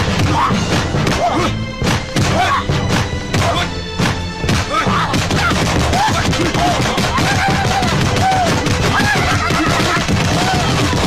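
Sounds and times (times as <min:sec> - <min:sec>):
film soundtrack music: 0:00.0 - 0:11.0.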